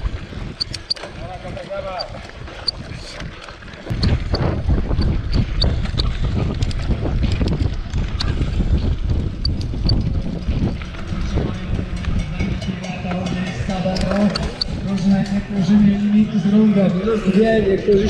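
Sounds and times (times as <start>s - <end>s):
mountain bike rattling over dirt trail: 0.0s - 18.0s
wind buffeting microphone: 0.0s - 18.0s.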